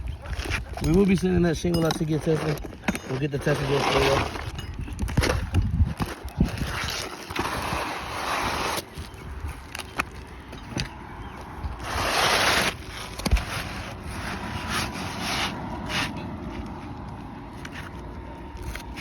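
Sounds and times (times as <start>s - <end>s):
roof shingles being scraped: 2.0s - 10.1s, 11.6s - 19.0s.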